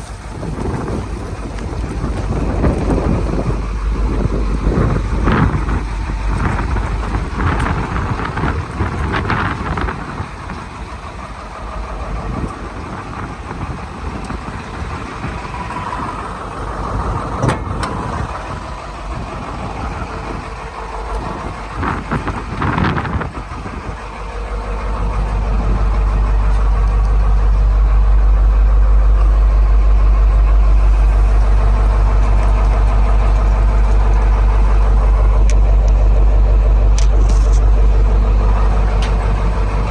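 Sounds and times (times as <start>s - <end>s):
diesel truck engine idling: 0.0s - 39.9s
engine knocks: 0.0s - 39.9s.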